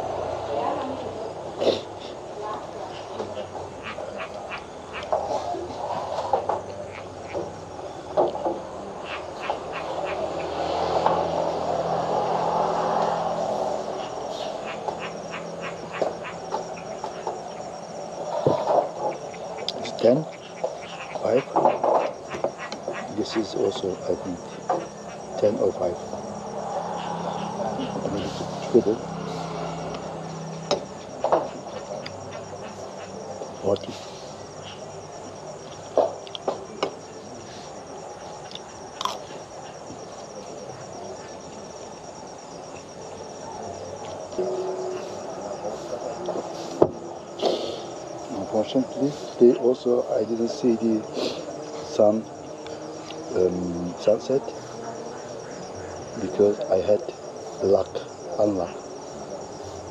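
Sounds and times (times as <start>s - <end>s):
insects trilling: 0.0s - 59.9s
vehicle engine hum: 0.0s - 59.9s
short insect chirps: 9.0s - 59.9s.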